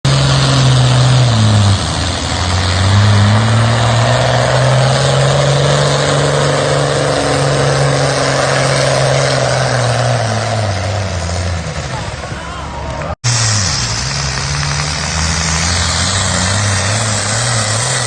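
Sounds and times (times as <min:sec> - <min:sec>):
tractor engine running loud: 0:00.0 - 0:12.4, 0:13.2 - 0:18.0.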